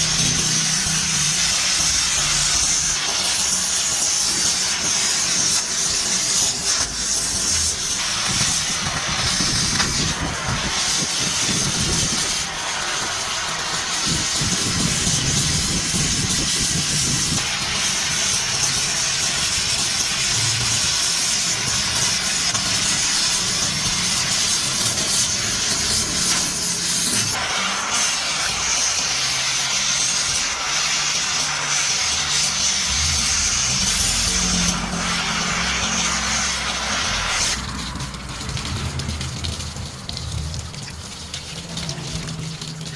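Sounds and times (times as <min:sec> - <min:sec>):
steady welding hiss: 0:00.0 - 0:41.3.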